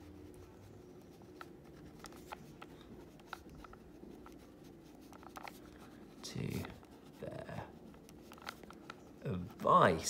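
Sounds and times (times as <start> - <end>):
pen scratching on card: 0.0 - 9.9
low room hum: 0.0 - 10.0.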